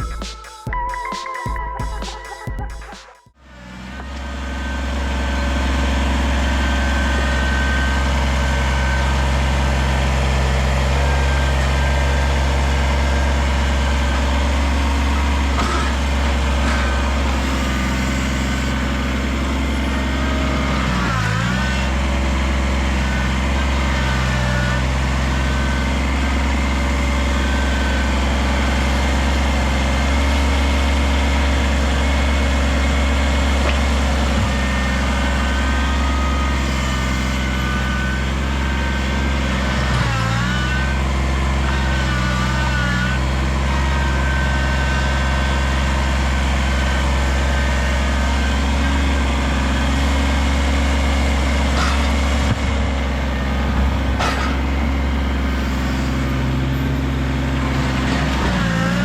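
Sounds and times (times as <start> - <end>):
tractor diesel engine running: 0.0 - 0.9, 1.5 - 59.0.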